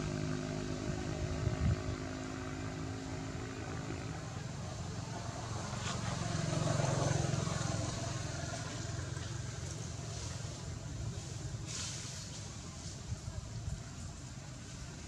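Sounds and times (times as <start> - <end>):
passing vehicle engine rumble: 0.0 - 15.0.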